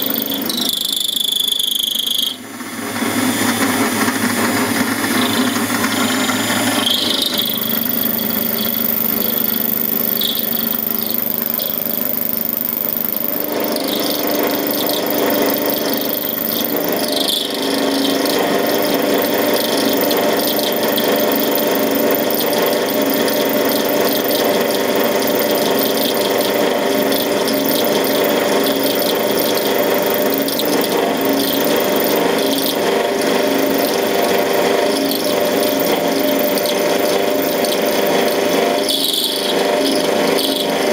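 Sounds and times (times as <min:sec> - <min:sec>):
grinding rattle of metal cutting: 0:00.0 - 0:40.9
lathe motor whine: 0:00.0 - 0:40.9.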